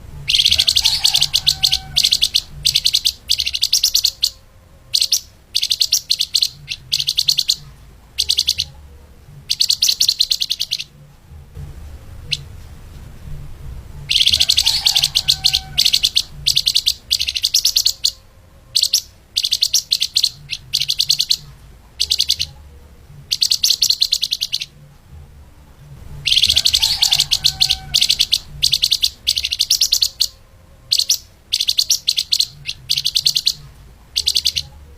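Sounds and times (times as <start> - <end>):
low hum: 0.0 - 5.6, 6.2 - 31.5
songbird trilling: 0.2 - 8.8, 9.4 - 11.0, 14.1 - 22.6, 23.3 - 24.8, 26.2 - 34.8.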